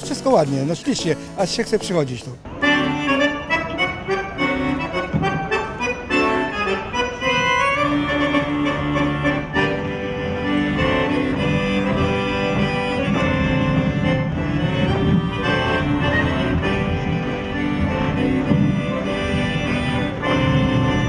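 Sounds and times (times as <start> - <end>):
folk dance music: 0.0 - 21.0.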